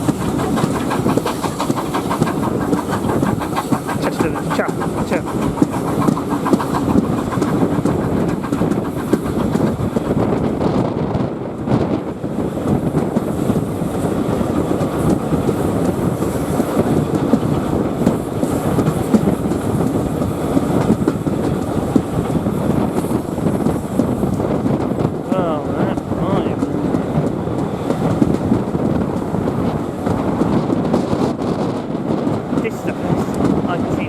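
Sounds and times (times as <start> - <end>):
train coaches rumbling and rattling: 0.0 - 34.0
wheels clacking on rails: 0.0 - 34.0.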